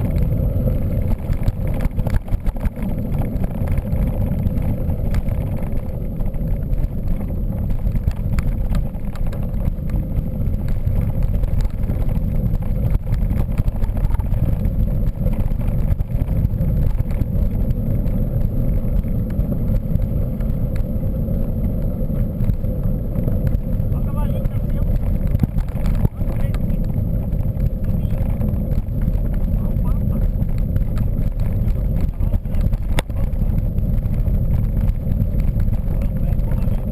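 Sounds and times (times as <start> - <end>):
bike knocks and rattles: 0.0 - 36.9
tyres rolling over trail: 0.0 - 36.9
wind on microphone: 0.0 - 36.9.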